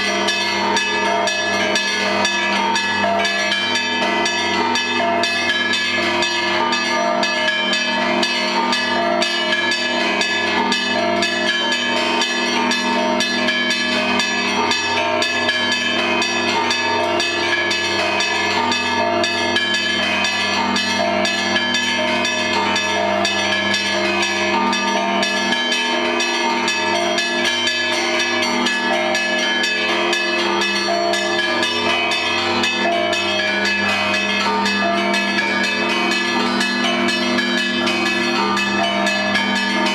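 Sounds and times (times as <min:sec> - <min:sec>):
church bells pealing: 0:00.0 - 0:39.9
low bells humming: 0:00.0 - 0:39.9.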